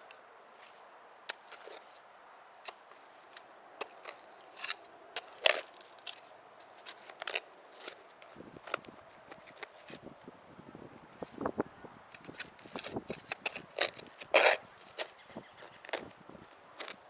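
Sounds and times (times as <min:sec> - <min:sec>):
digging tool scraping soil: 0:00.6 - 0:02.0, 0:02.6 - 0:10.1, 0:12.2 - 0:17.0.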